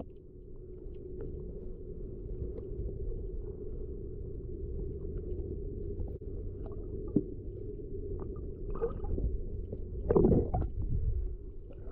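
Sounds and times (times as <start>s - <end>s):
underwater rumble: 0.0s - 11.9s.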